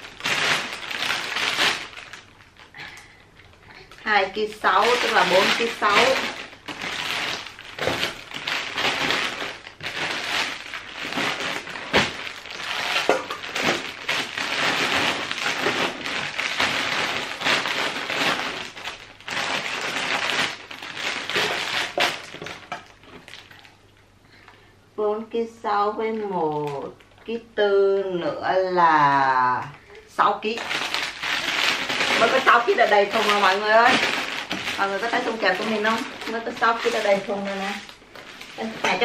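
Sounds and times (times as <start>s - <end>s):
plastic wrappers crinkling: 0.0s - 23.8s, 26.1s - 27.4s, 29.6s - 39.0s.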